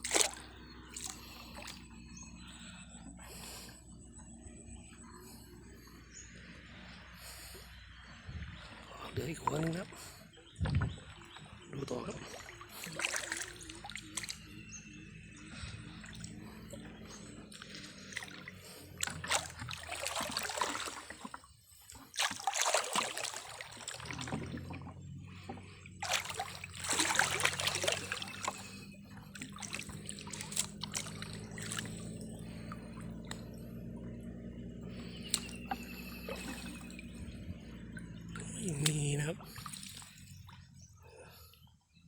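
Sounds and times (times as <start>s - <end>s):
steady low hum: 0.0s - 41.9s
water sloshing and trickling: 0.0s - 42.0s.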